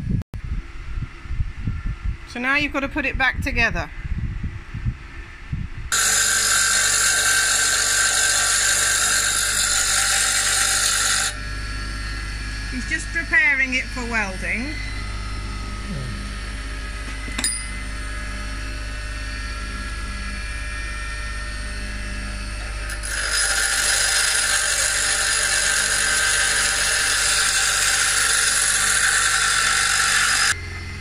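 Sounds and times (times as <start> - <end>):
bench grinder humming: 5.9 - 31.0.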